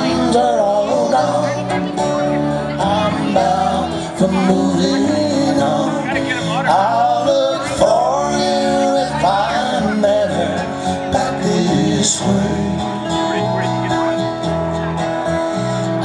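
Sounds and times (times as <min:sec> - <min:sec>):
man singing: 0:00.0 - 0:14.3
country folk band playing: 0:00.0 - 0:16.0.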